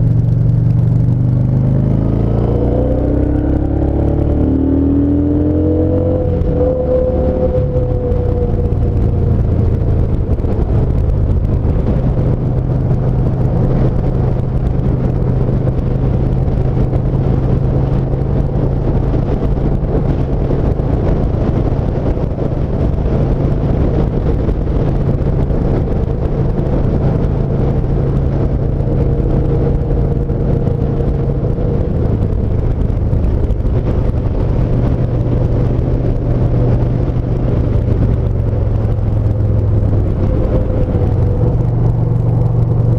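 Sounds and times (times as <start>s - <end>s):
motorcycle engine cruising: 0.0s - 42.9s
road and wind noise: 0.0s - 42.9s.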